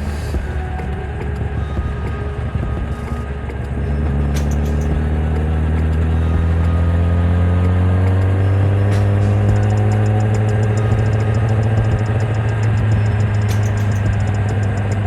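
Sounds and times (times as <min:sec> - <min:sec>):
motorcycle engine revving: 0:01.7 - 0:15.0.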